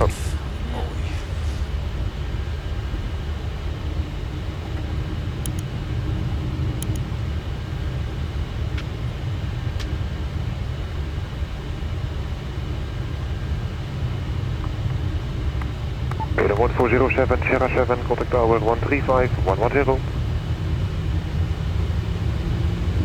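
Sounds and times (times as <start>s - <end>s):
aircraft engines idling rumble: 0.0s - 23.0s.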